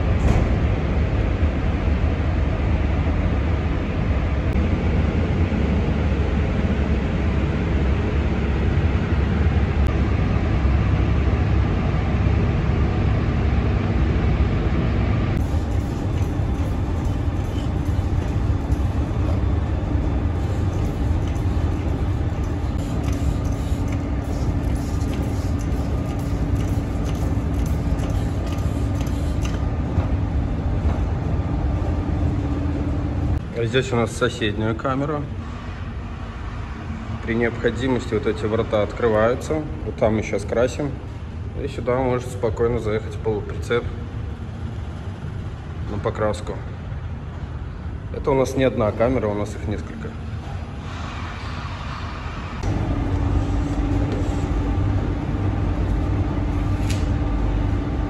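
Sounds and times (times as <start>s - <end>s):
ventilation fans rumbling: 0.0s - 58.0s.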